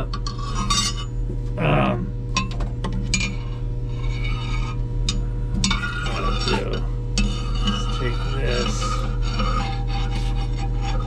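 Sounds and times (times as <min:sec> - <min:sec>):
metal hook scraping oven floor: 0:00.0 - 0:01.2, 0:02.9 - 0:11.0
steady low hum: 0:00.0 - 0:11.0.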